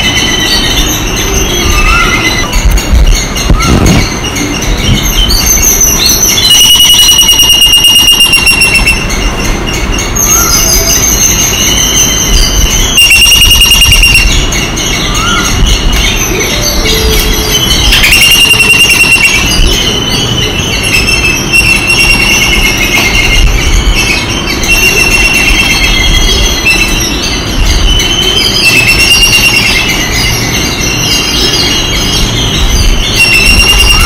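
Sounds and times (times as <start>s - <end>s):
shrill trilling animal calls: 0.0s - 34.0s.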